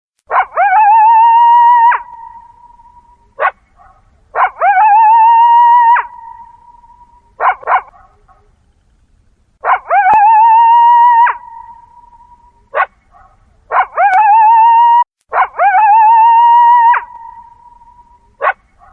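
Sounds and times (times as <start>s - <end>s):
coyote howling and yipping: 0.3s - 3.6s, 4.3s - 8.5s, 9.6s - 13.0s, 13.7s - 18.9s.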